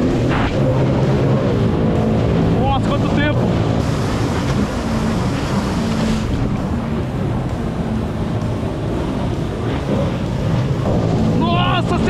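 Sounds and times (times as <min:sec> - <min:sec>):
jet ski engine running: 0:00.0 - 0:12.0
water rushing: 0:00.0 - 0:12.0
wind on microphone: 0:00.0 - 0:12.0.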